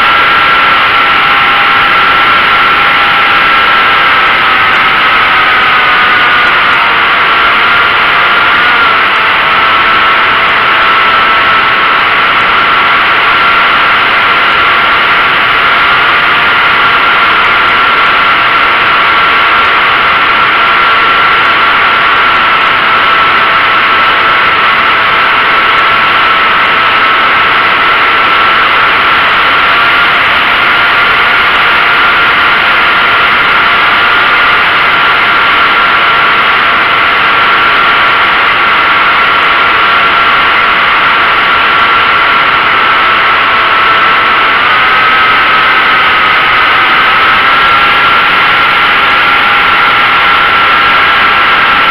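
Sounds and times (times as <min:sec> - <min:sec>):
model airplane motor whine: 0:00.0 - 0:51.9.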